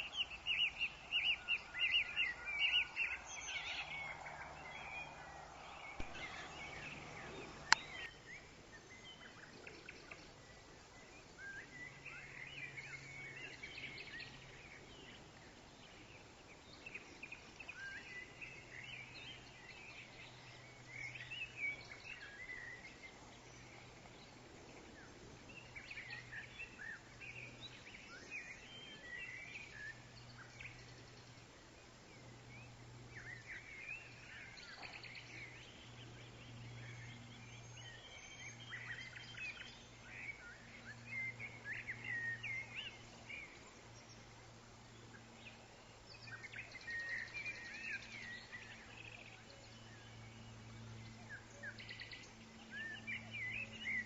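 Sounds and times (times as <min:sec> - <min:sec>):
faint low hum: 0:00.0 - 0:54.0
songbirds chirping: 0:00.0 - 0:54.0.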